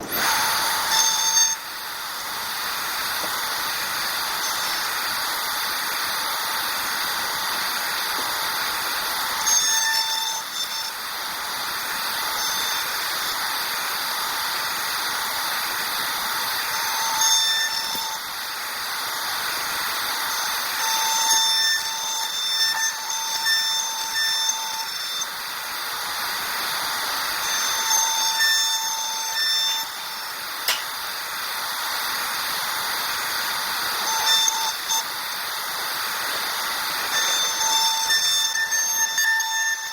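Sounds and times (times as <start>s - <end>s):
high-pitched machine whine: 0.0s - 39.9s
milling machine whirring: 0.0s - 39.9s.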